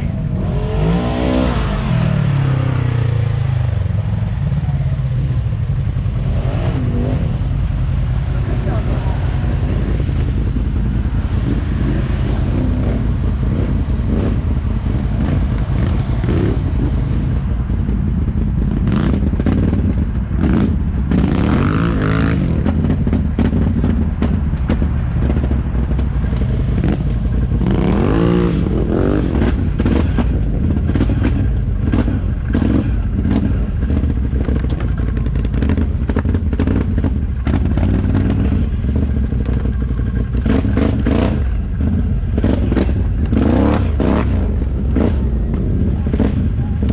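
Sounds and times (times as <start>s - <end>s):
atv engine revving: 0.0s - 46.9s.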